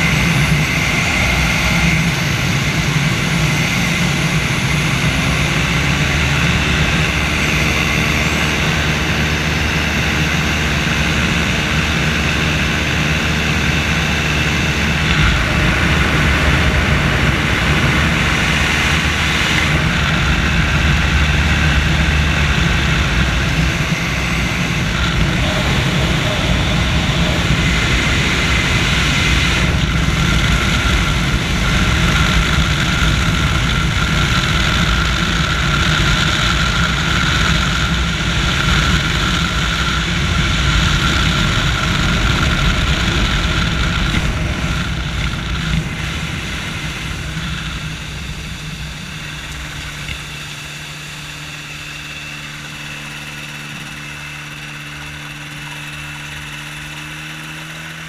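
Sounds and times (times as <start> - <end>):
engine and propeller: 0.0 - 58.0
low engine hum: 0.0 - 58.0
rushing wind: 0.0 - 58.0.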